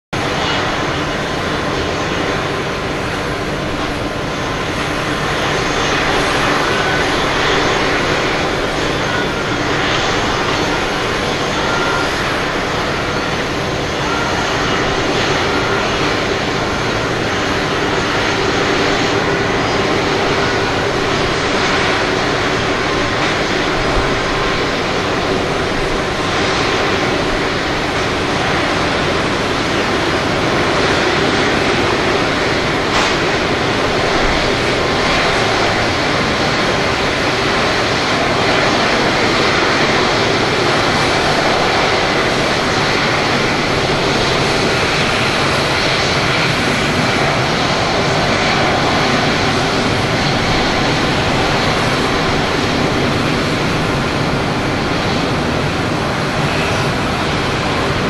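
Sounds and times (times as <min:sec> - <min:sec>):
jet engines at taxi thrust: 0:00.1 - 0:58.0.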